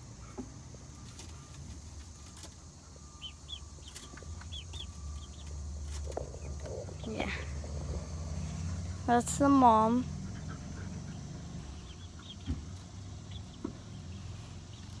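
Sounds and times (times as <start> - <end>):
chicks peeping: 0.3 - 9.0, 9.7 - 15.0
steady low rumble: 2.9 - 15.0.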